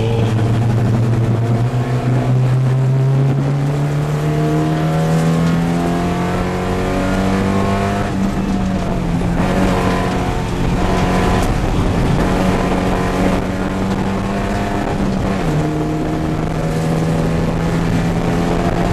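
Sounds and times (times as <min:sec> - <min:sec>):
race car engine revving: 0:00.0 - 0:18.9.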